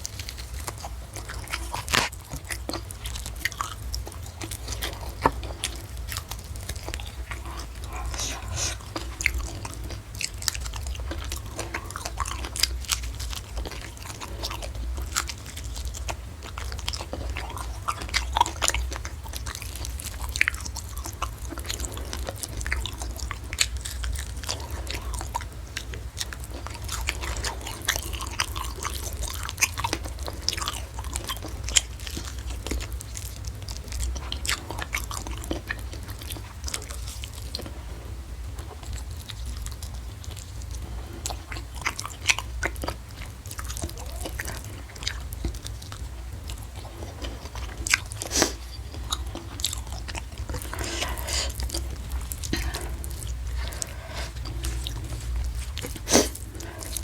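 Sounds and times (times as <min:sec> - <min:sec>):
wet chewing: 0:00.0 - 0:57.0.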